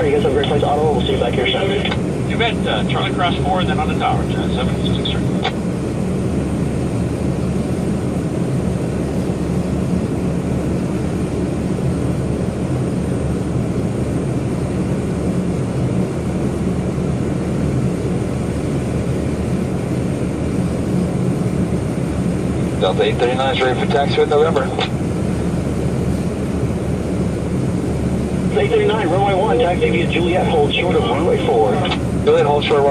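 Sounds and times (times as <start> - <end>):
jet engines humming: 0.0 - 32.9.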